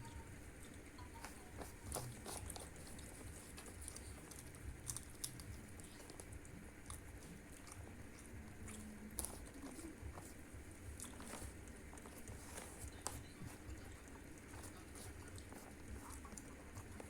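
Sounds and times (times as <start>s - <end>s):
chewing: 0.6s - 17.0s.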